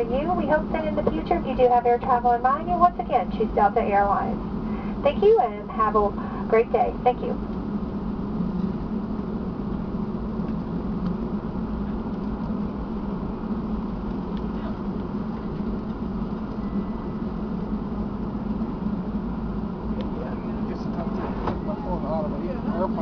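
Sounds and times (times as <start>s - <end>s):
aircraft cabin drone: 0.0s - 23.0s.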